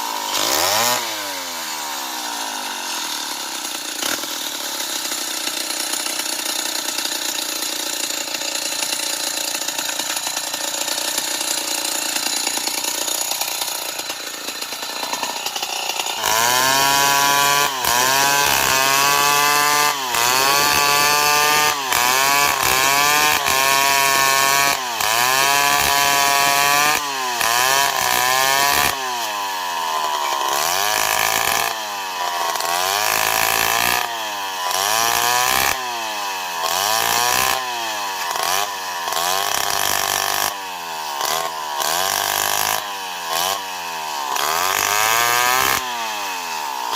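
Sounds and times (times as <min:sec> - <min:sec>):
chainsaw revving: 0:00.0 - 0:46.9.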